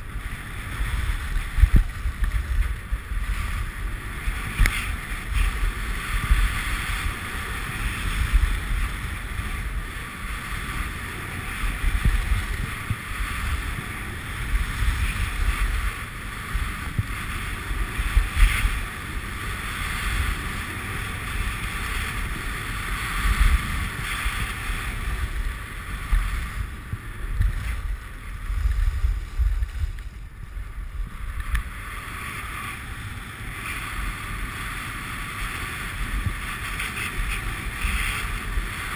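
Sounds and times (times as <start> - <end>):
skis sliding on snow: 0.0 - 38.9
wind buffeting microphone: 0.0 - 38.9.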